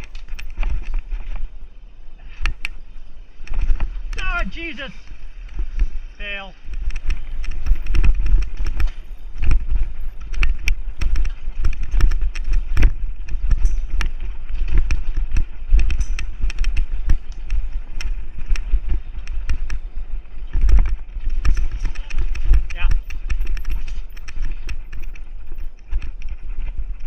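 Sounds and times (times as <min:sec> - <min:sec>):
bike clattering over roots: 0:00.0 - 0:01.6, 0:06.6 - 0:27.0
wind rumbling over microphone: 0:00.0 - 0:27.0.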